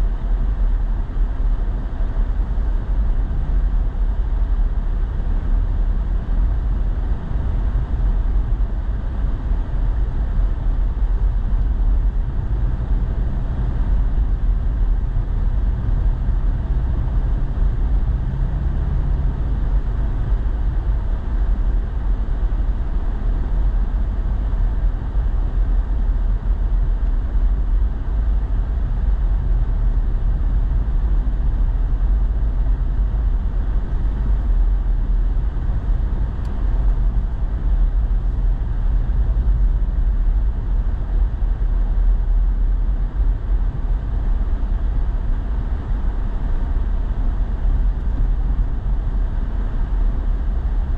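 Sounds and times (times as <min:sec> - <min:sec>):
truck engine and tyres rumbling: 0:00.0 - 0:50.9.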